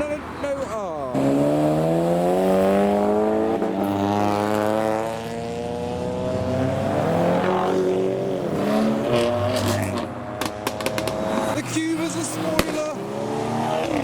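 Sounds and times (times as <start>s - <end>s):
car engine accelerating past: 1.1s - 14.0s.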